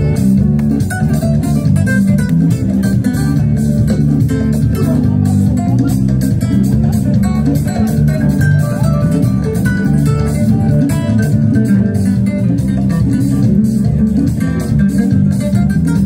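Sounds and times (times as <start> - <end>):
bass guitar: 0.0 - 16.0
guitar: 0.0 - 16.0
percussion beat: 0.0 - 16.0.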